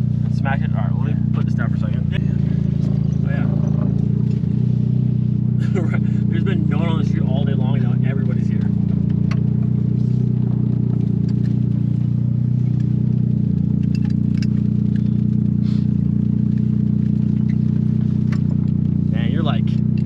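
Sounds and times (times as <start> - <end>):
car engine droning steadily: 0.0 - 20.0.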